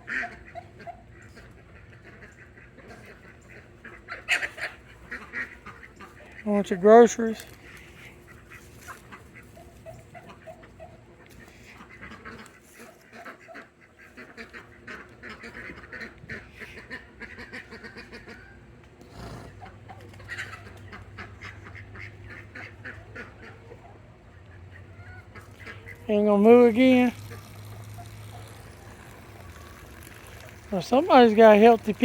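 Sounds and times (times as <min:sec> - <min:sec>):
ducks quacking: 0:00.0 - 0:18.8, 0:19.4 - 0:32.0.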